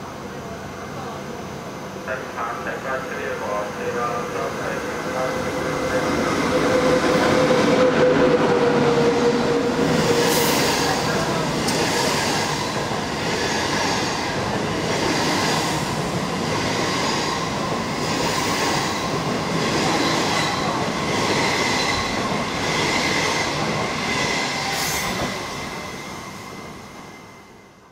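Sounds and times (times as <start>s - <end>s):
train wheels rumbling past: 3.7s - 27.8s.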